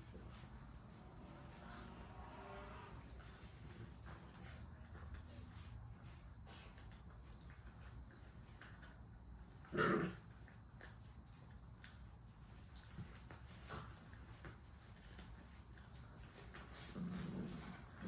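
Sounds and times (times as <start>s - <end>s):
puppies rustling in bedding: 0.0s - 9.0s, 12.2s - 18.0s.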